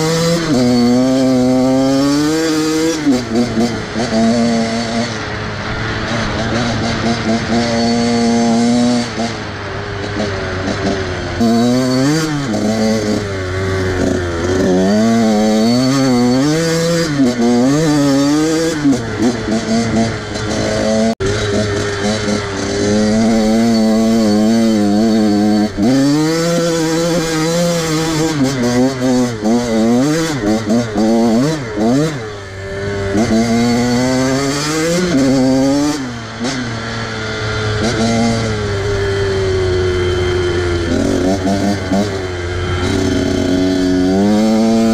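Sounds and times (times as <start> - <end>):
off-road vehicle engine revving: 0.0 - 44.9.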